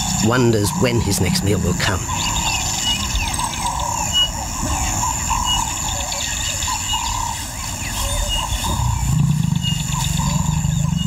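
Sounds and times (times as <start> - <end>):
insect drone: 0.0 - 11.0.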